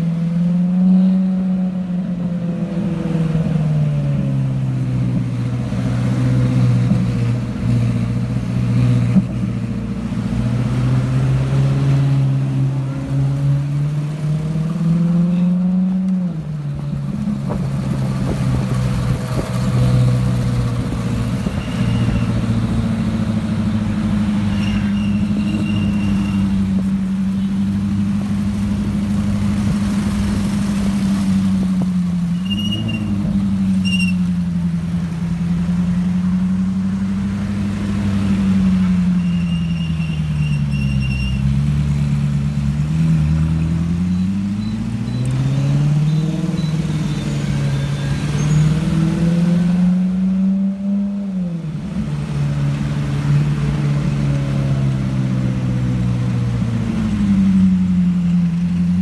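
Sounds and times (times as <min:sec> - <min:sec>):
sports car engine at low revs: 0:00.0 - 0:59.0
street traffic noise: 0:00.0 - 0:59.0.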